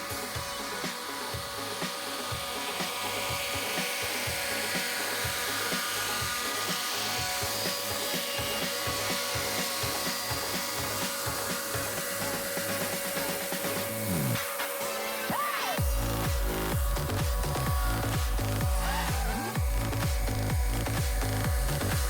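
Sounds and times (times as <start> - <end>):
electric chainsaw cutting wood: 0.0 - 22.0
music with a steady beat: 0.0 - 22.0.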